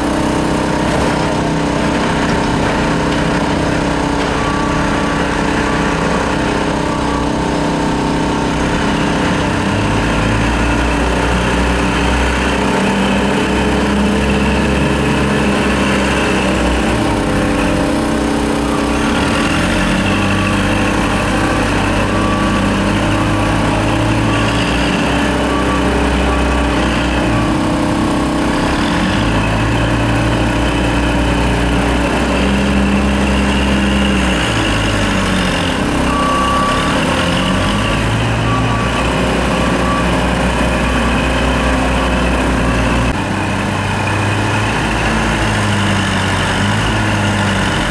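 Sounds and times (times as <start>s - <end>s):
backhoe diesel engine running: 0.0s - 47.9s.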